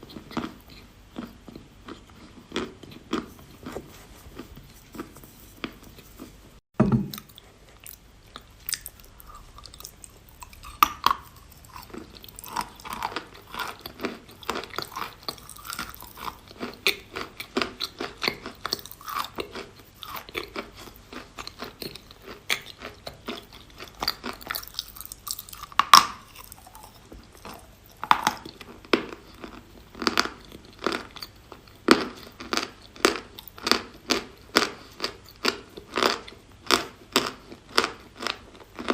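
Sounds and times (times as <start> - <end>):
chalk crunching and chewing: 0.0 - 6.4, 7.2 - 38.9.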